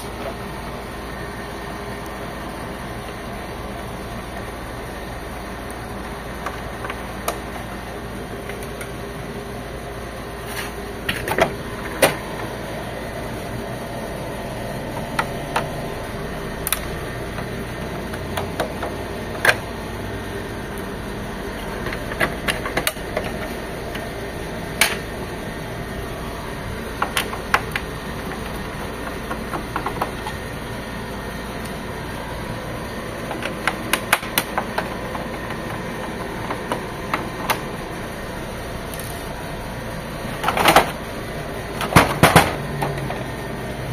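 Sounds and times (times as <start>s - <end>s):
steady background hum: 0.0s - 43.9s.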